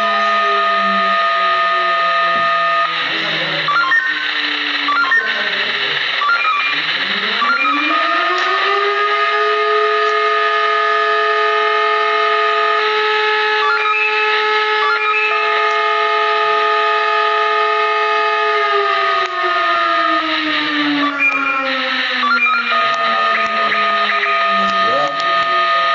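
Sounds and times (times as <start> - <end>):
siren steady tone: 0.0 - 25.9.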